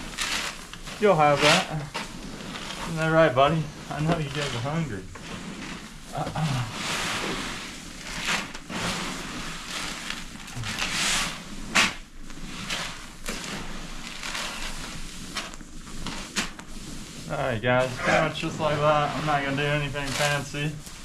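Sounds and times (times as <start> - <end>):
grain rustling while stirred: 0.0 - 21.0.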